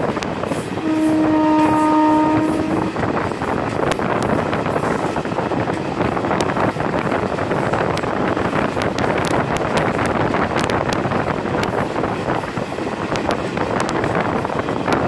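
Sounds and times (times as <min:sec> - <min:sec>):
train running noise: 0:00.0 - 0:15.0
wind rushing on microphone: 0:00.0 - 0:15.0.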